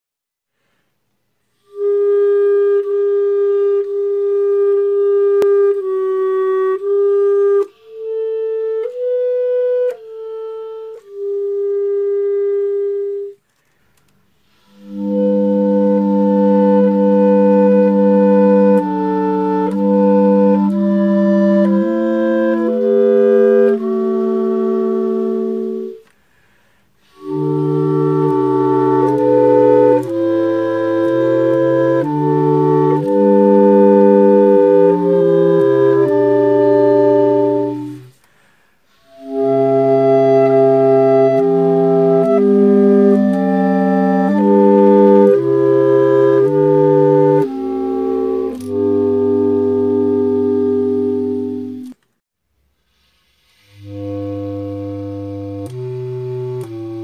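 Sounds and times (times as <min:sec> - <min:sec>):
bass clarinet low notes: 0:01.5 - 0:13.4, 0:14.4 - 0:26.2, 0:27.0 - 0:38.2, 0:38.9 - 0:52.0, 0:53.5 - 0:57.0
clarinets playing a hymn: 0:01.6 - 0:13.8, 0:14.4 - 0:52.0, 0:53.5 - 0:57.0.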